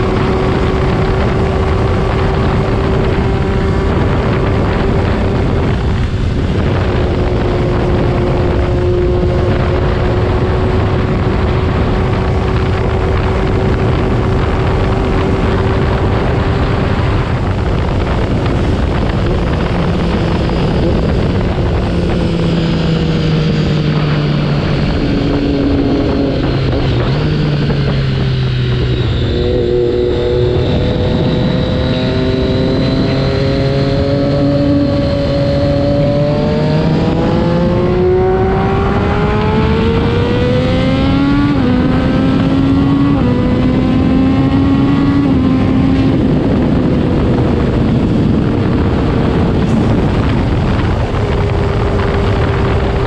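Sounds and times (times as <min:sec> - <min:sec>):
motorcycle engine revving: 0:00.0 - 0:53.0
wind blast on microphone: 0:00.0 - 0:53.0.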